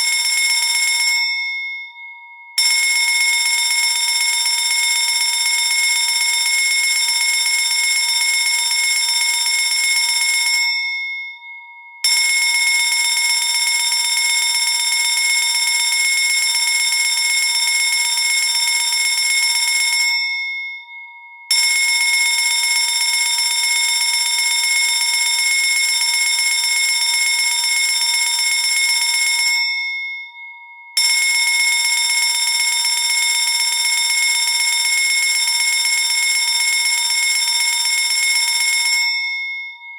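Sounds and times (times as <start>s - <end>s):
fire alarm bell ringing: 0.0s - 39.9s.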